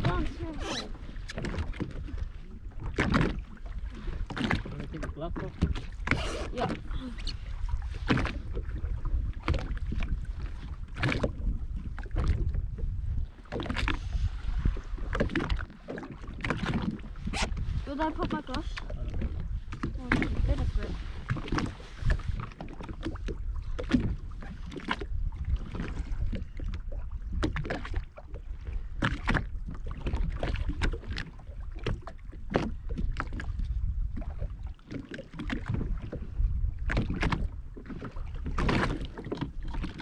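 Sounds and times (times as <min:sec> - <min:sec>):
knocks and slaps on jet ski: 0:00.0 - 0:02.2, 0:02.8 - 0:03.5, 0:04.2 - 0:07.4, 0:08.0 - 0:28.4, 0:29.0 - 0:40.0
wind on microphone: 0:00.0 - 0:40.0.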